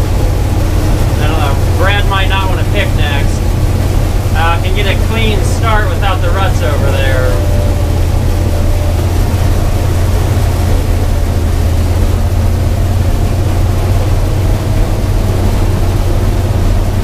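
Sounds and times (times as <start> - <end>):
combine engine droning: 0.0 - 17.0.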